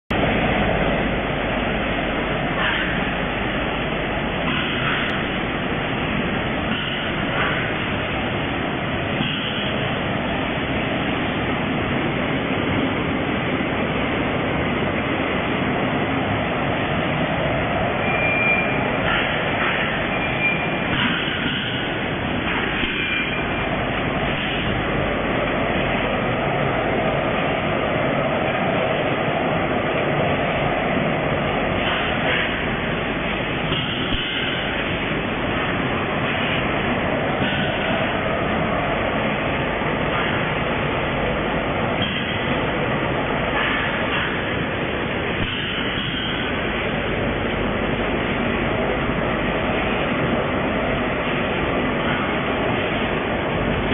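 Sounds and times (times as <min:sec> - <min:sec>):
packing machine mechanical din: 0:00.1 - 0:12.0, 0:17.6 - 0:26.8, 0:30.1 - 0:53.9.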